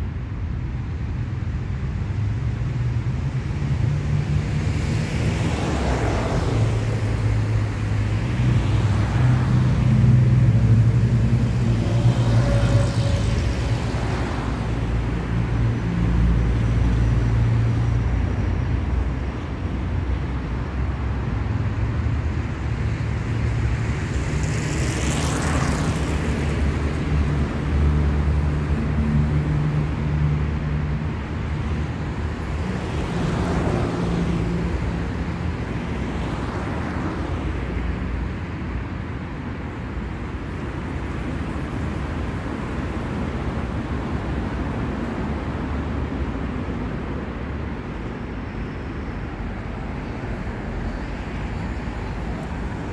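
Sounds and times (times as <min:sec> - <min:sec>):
cars passing by: 0:00.0 - 0:52.9
rumble of traffic engines: 0:00.0 - 0:52.9.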